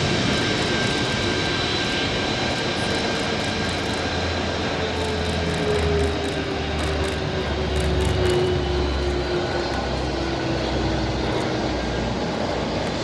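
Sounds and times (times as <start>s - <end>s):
aircraft engines in flight: 0.0s - 13.0s.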